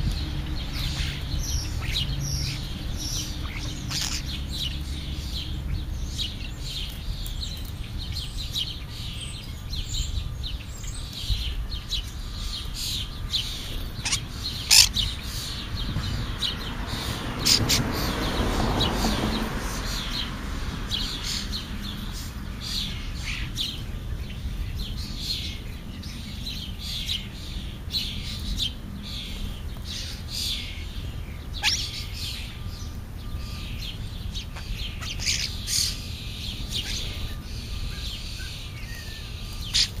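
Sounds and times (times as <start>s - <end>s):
young starlings chirping: 0.0s - 40.0s.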